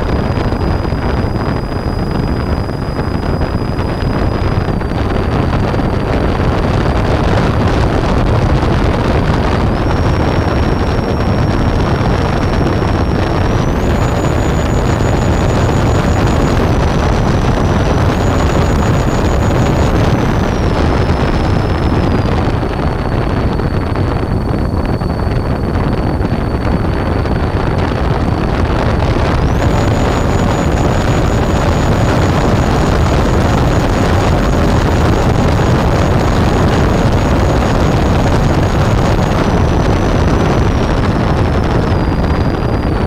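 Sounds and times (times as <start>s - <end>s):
high motor whine: 0.0s - 43.0s
rush of airflow: 0.0s - 43.0s.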